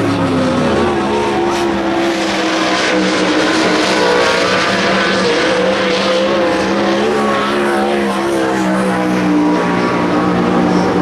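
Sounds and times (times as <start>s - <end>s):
race car engines running: 0.0s - 11.0s.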